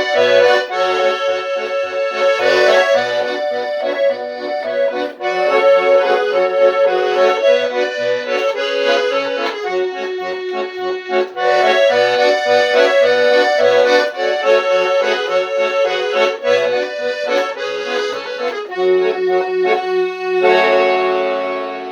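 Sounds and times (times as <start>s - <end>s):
button accordion playing a tune: 0.0s - 21.9s.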